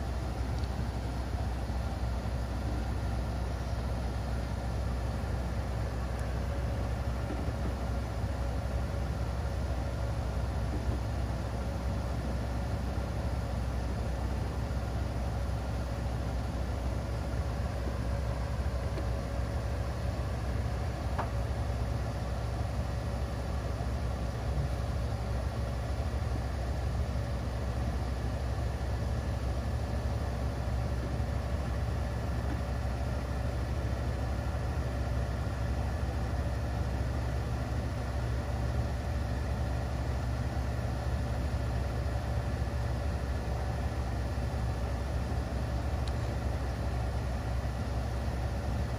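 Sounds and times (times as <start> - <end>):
bus engine idling: 0.0 - 48.9
faint steady whine: 0.0 - 48.9.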